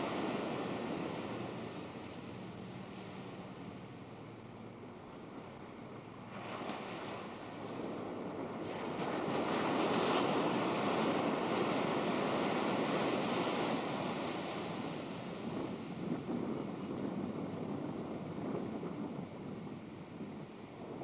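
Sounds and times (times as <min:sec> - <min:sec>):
waves breaking on a beach: 0:00.0 - 0:21.0.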